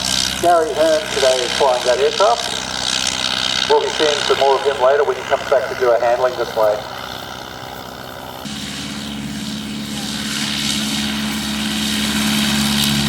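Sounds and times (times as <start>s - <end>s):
biplane engine droning: 0.0s - 13.0s.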